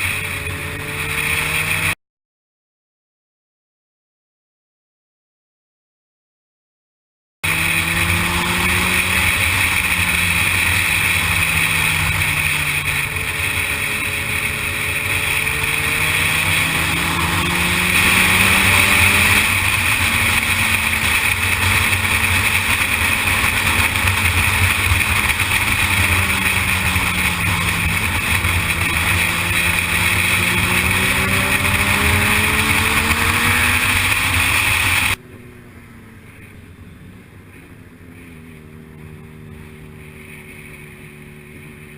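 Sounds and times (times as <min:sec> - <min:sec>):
sportbike engine revving: 0:00.0 - 0:02.0, 0:07.4 - 0:41.9.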